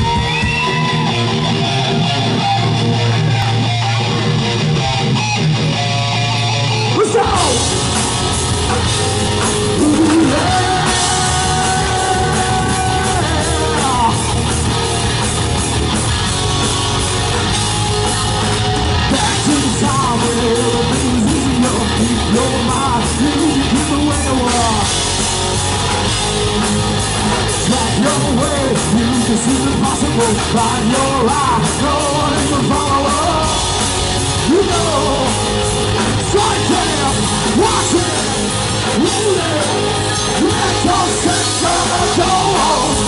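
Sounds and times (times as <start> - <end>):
bass guitar: 0.0 - 43.0
distorted electric guitars: 0.0 - 43.0
drums: 0.0 - 43.0.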